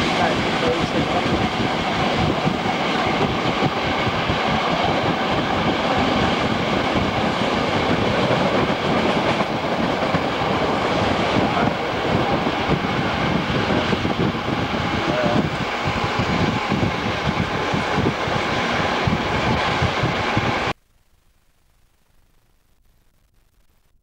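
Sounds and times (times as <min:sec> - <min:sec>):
train wheels rumbling on rails: 0:00.0 - 0:20.7.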